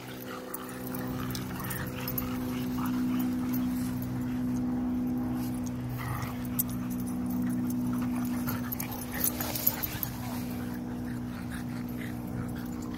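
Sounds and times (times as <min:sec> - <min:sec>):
dogs playing rough: 0:00.0 - 0:12.9
steady low hum: 0:00.0 - 0:12.9.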